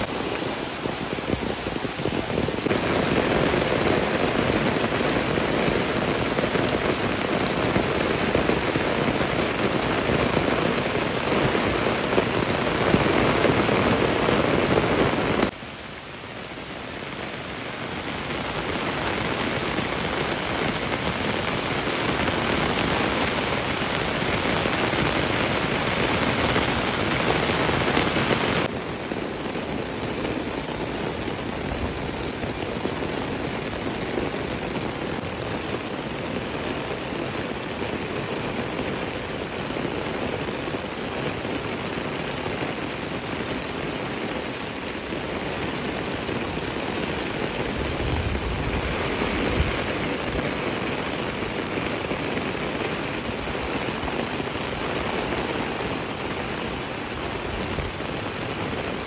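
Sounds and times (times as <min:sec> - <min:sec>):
heavy rain falling: 0:00.0 - 0:59.0
rainwater running down path: 0:00.0 - 0:59.0.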